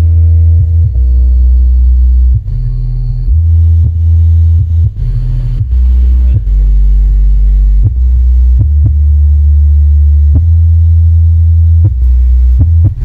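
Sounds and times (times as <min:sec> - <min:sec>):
deep bass from subwoofers: 0:00.0 - 0:13.0.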